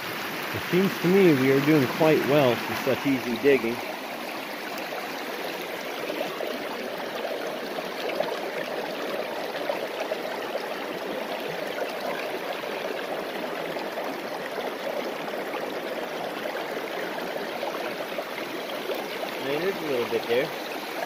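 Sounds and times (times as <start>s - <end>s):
water rushing through sluice box: 0.0s - 21.0s.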